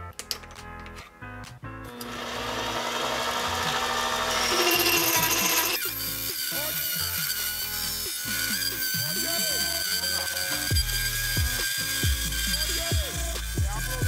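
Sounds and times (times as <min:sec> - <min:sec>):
lathe tool scraping metal: 0:02.0 - 0:14.0.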